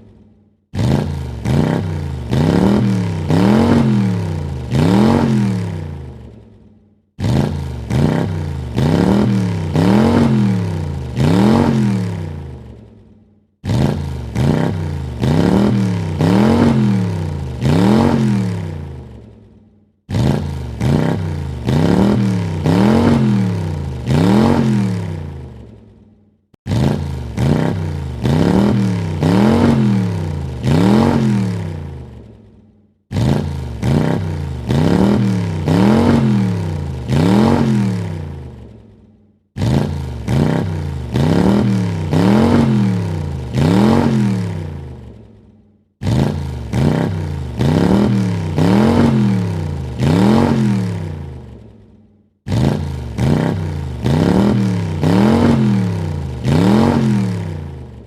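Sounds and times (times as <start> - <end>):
car engine revving in blips: 0.7 - 6.4, 7.2 - 12.8, 13.6 - 19.2, 20.0 - 25.7, 26.6 - 32.2, 33.1 - 38.7, 39.6 - 45.2, 46.0 - 51.6, 52.4 - 58.0.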